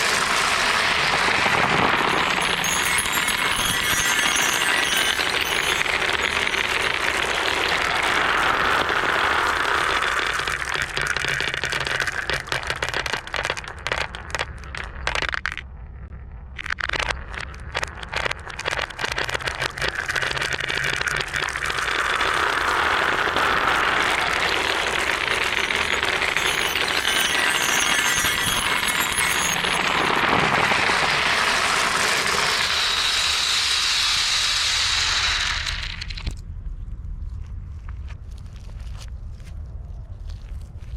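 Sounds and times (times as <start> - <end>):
marbles rolling on wooden run: 0.0 - 15.6, 16.6 - 36.4
marble clicks and clacks: 0.0 - 15.7, 16.6 - 36.4.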